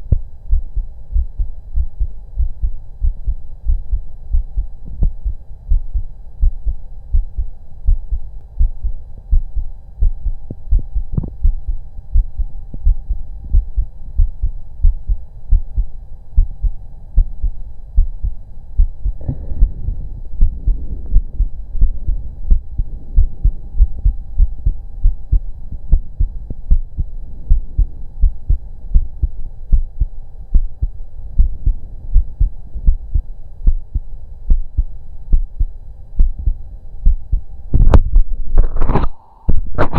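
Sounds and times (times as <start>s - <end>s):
heartbeat thumps: 0.0s - 38.9s
faint hum: 0.0s - 39.9s.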